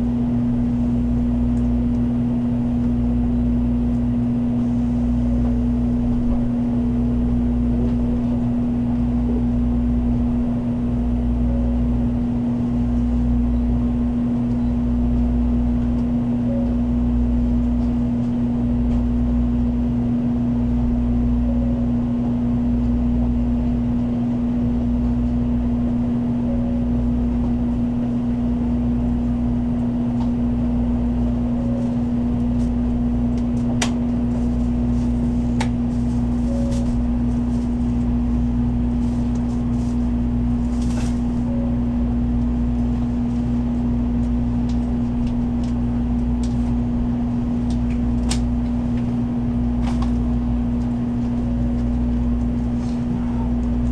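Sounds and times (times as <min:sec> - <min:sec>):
train cabin rumble: 0:00.0 - 0:53.9.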